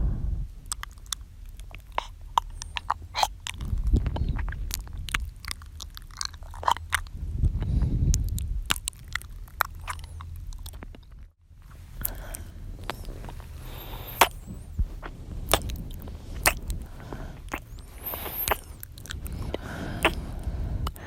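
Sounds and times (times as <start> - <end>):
wet mouth clicks and smacks: 0.6 - 11.3, 12.0 - 21.0.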